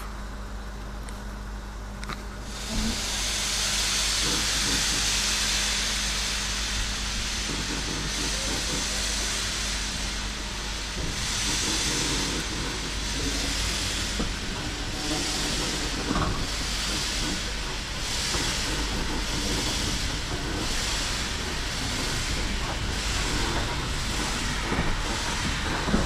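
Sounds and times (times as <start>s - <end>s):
steam locomotive hissing: 2.4s - 26.0s.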